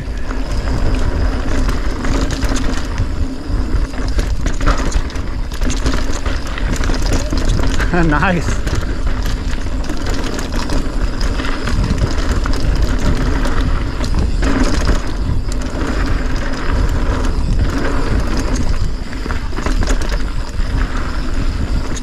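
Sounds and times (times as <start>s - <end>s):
bike rattling: 0.0s - 22.0s
wind rumble on microphone: 0.0s - 22.0s
tyres crunching over dirt and stones: 0.2s - 22.0s.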